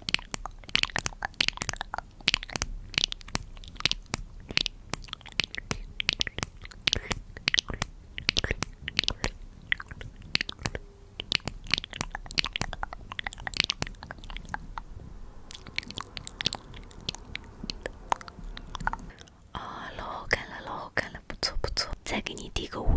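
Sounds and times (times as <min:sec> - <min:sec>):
crisp clicks and crackles: 0:00.0 - 0:22.4.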